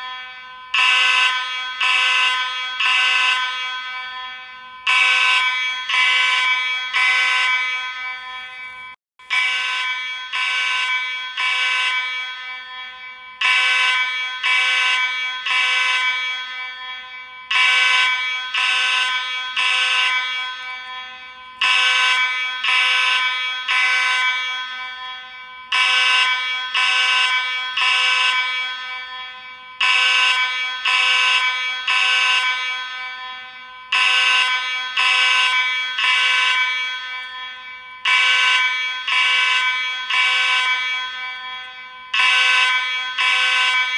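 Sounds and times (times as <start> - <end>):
fire alarm horn blasts: 0.0 - 43.9.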